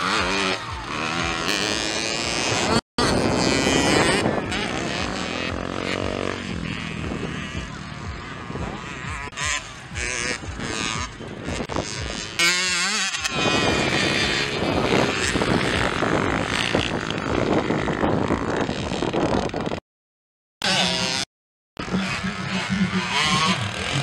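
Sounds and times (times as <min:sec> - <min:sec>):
dirt bike engines revving: 0:00.0 - 0:19.8, 0:20.6 - 0:24.0.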